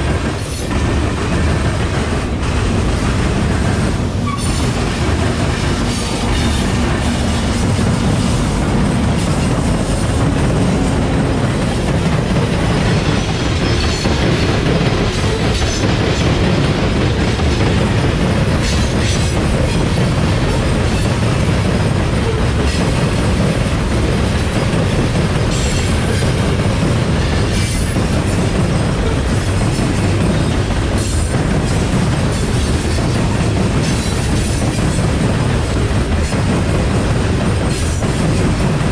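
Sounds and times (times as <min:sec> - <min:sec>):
diesel locomotive passing: 0:00.0 - 0:38.9
steel wheels rumbling on rail: 0:00.0 - 0:38.9
wheels clacking over rail joints: 0:00.0 - 0:38.9.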